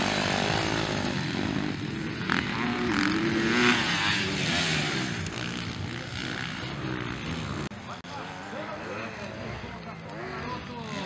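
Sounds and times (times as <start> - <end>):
motocross bike revving: 0.0 - 11.0.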